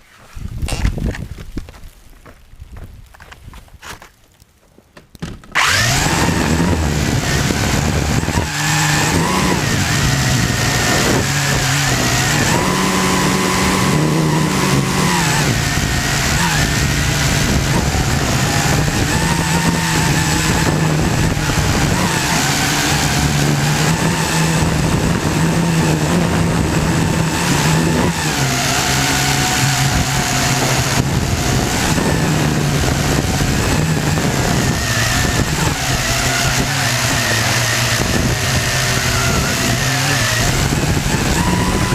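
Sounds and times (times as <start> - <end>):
drone propellers buzzing: 5.5 - 41.9.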